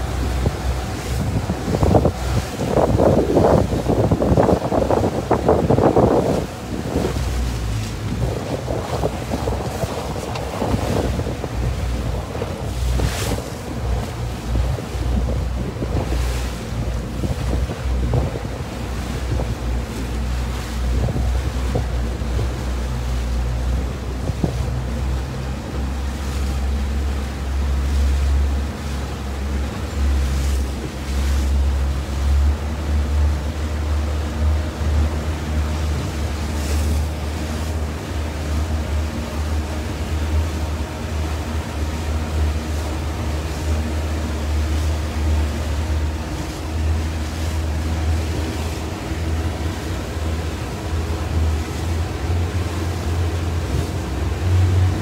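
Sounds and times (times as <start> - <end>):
water splashing against boat: 0.0 - 55.0
wind buffeting microphone: 0.0 - 55.0.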